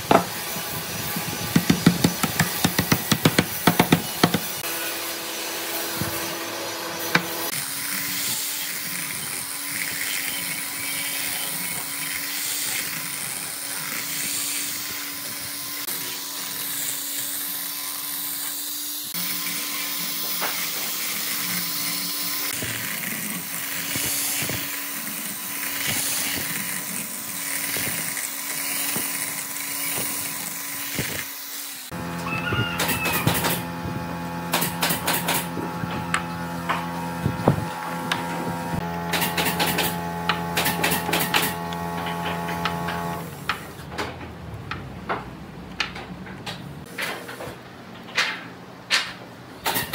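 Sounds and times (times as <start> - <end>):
orbital sander whirring: 0.0 - 43.6.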